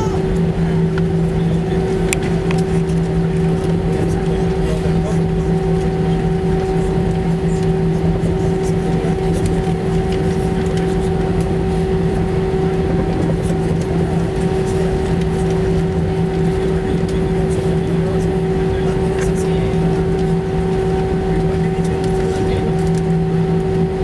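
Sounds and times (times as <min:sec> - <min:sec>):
airplane cabin engine roar: 0:00.0 - 0:24.0.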